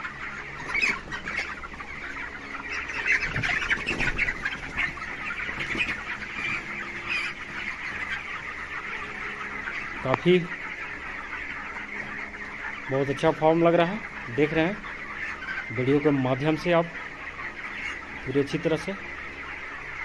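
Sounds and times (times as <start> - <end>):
chickens clucking and cheeping: 0.0 - 20.0.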